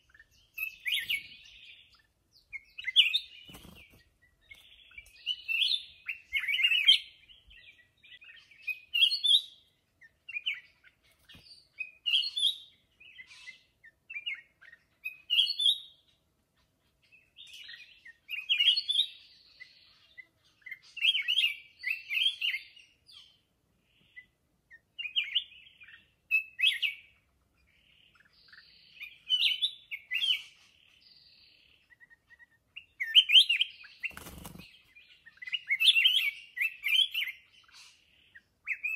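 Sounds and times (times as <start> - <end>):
bird singing warbling phrases: 0.0 - 38.9.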